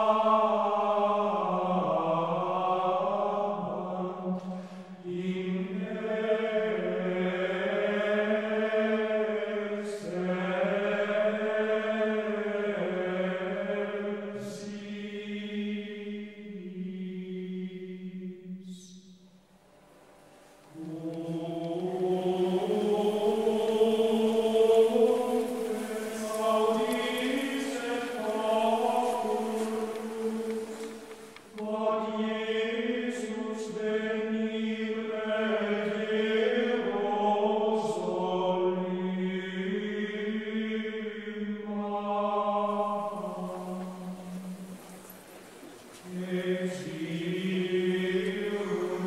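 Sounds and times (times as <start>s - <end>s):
choir singing a slow chant: 0.0s - 19.4s, 20.2s - 49.0s.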